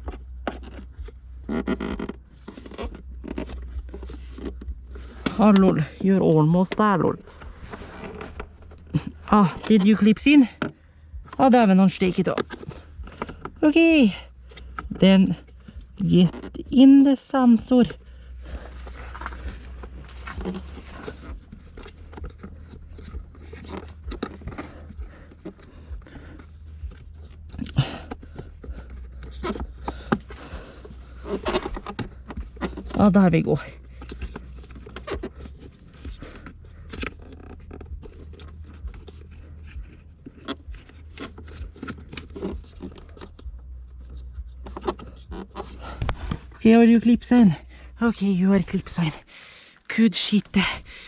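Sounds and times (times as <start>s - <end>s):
plastic parts clicking and scraping: 0.0s - 51.0s
steady low hum: 0.0s - 51.0s.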